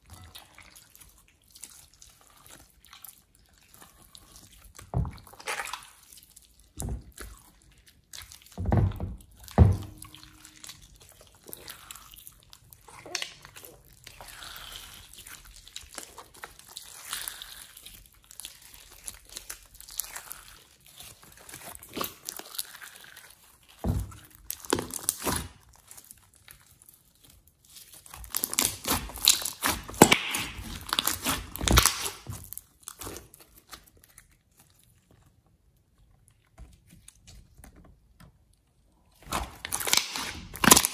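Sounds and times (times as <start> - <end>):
slime squelching and crackling: 0.0 - 40.9.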